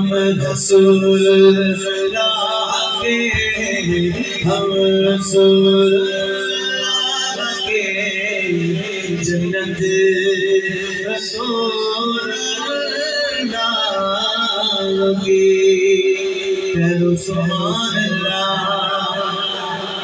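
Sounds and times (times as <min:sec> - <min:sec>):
man singing through loudspeakers: 0:00.0 - 0:20.0.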